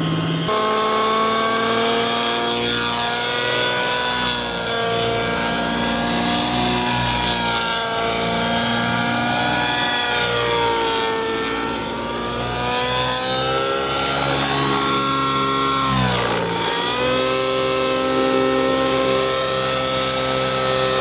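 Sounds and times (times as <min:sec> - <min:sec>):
model helicopter motor whining: 0:00.0 - 0:21.0.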